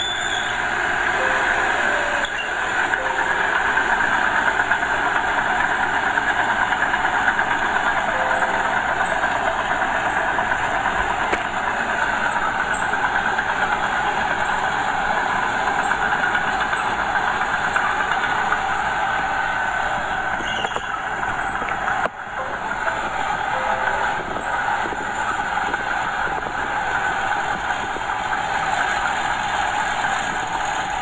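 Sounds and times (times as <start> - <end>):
diesel engine throbbing: 0.0 - 31.0.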